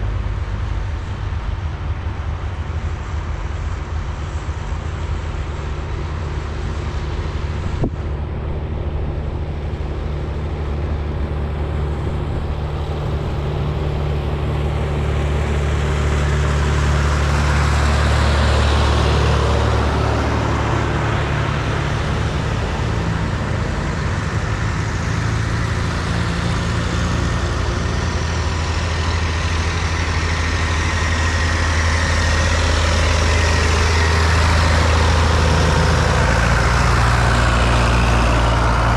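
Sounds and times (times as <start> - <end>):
diesel tractor engines running: 0.0 - 38.9.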